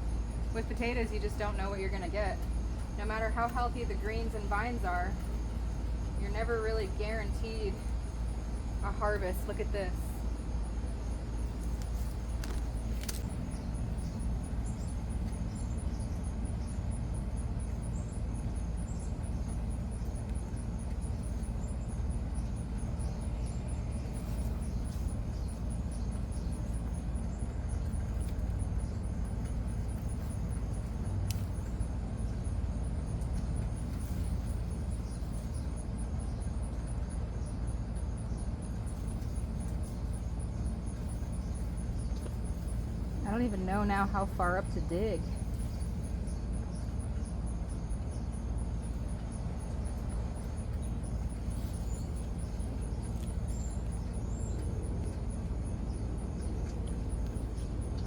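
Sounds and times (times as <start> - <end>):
constant low rumble: 0.0 - 58.0
high pulsing insect trill: 0.0 - 58.0.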